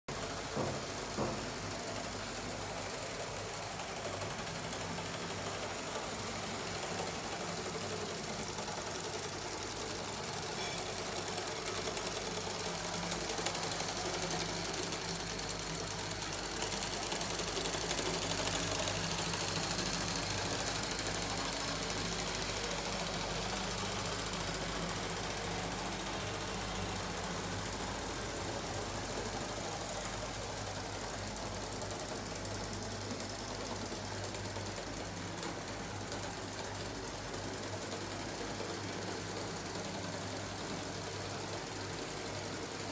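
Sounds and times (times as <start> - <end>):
steam engine chuffing: 0.1 - 42.9.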